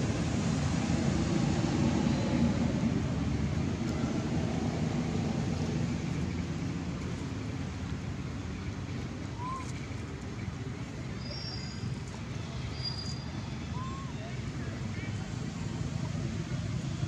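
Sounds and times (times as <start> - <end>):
low outdoor background rumble: 0.0 - 17.0.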